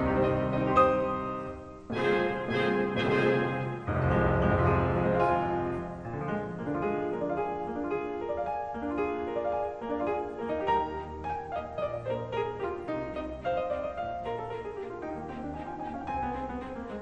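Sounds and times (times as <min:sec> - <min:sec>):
heavy low piano chord: 0:00.0 - 0:17.0
piano music: 0:00.0 - 0:17.0.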